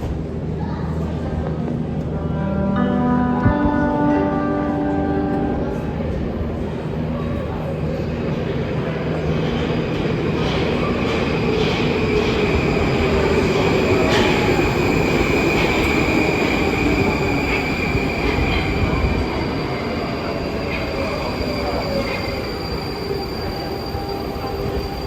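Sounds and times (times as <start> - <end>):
train rumbling on rails: 0.0 - 25.0.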